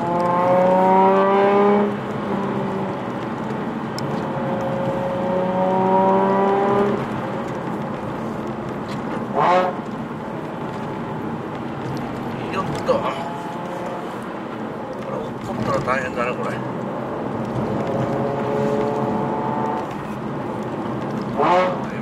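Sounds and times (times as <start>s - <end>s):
car engine accelerating: 0.0s - 22.0s
road and tyre noise: 0.0s - 22.0s.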